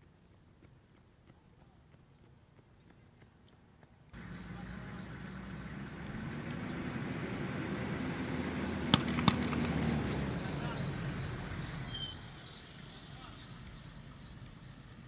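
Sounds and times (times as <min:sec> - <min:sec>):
motor vehicle engine approaching: 0:00.3 - 0:15.0.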